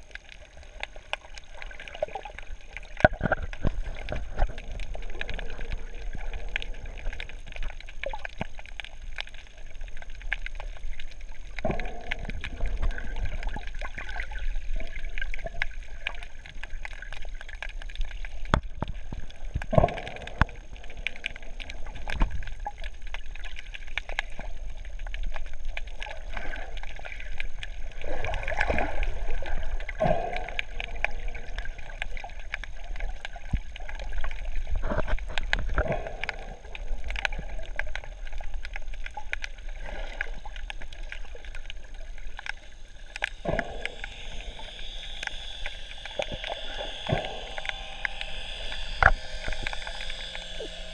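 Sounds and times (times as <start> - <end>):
gurgling bubble bursts: 0.0 - 50.9
muffled underwater rumble: 0.0 - 50.9
small clicks: 0.1 - 50.9.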